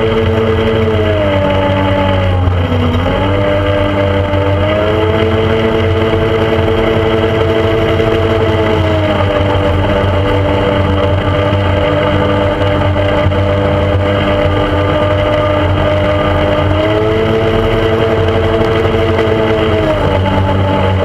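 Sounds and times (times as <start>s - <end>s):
motorboat engine running: 0.0s - 21.0s.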